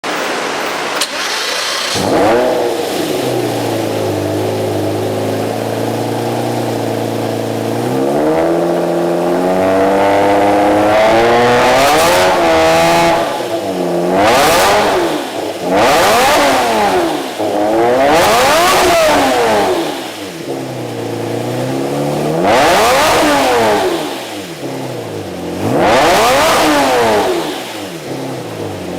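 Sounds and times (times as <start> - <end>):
engine revving: 0.0 - 28.9
sports car engine starting and idling: 0.1 - 28.9.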